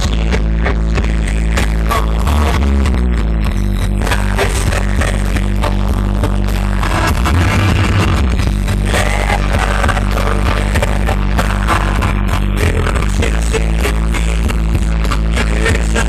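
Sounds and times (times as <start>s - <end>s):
heavy bass: 0.0s - 16.0s
live rock band playing: 0.0s - 16.0s.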